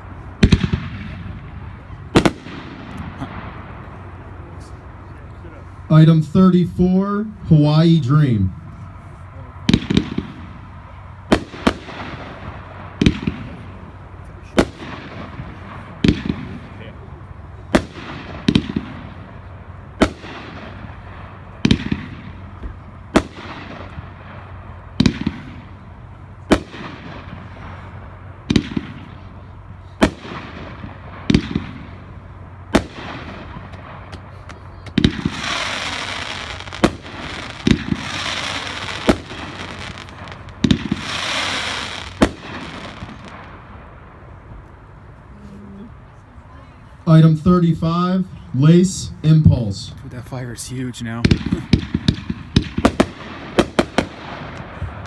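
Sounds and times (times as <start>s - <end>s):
fireworks cake firing: 0.0s - 5.9s, 8.8s - 44.2s, 50.2s - 55.0s
hissing crackle of fireworks: 0.0s - 6.6s, 8.6s - 47.1s, 50.0s - 55.0s.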